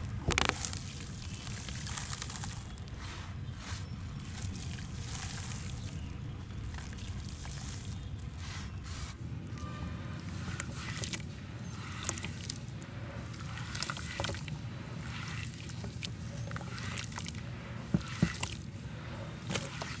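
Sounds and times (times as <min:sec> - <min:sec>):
hands squelching wet mud: 0:00.0 - 0:20.0
steady low rumble: 0:00.0 - 0:20.0.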